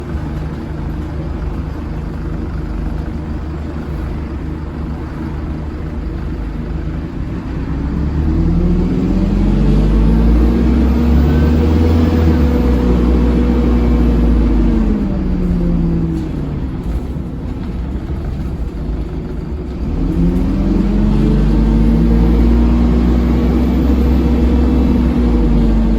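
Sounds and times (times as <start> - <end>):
bus engine rumbling: 0.0 - 25.9.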